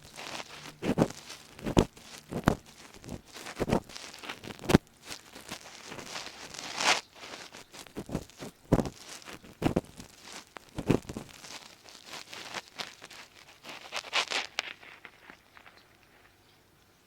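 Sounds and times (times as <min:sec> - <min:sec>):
ear pick scratching inside ear: 0:00.0 - 0:15.3.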